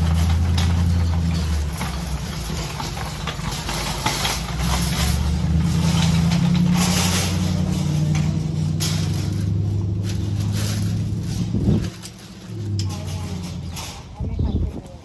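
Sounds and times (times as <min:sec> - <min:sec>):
low engine hum: 0:00.0 - 0:14.9.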